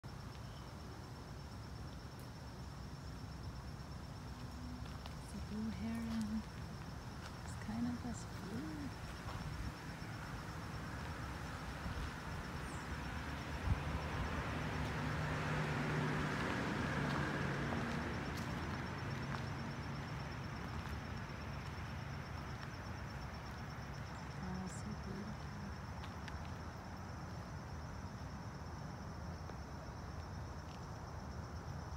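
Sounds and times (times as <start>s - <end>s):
crickets trilling: 0.0s - 31.9s
distant road traffic rumble: 0.1s - 31.9s.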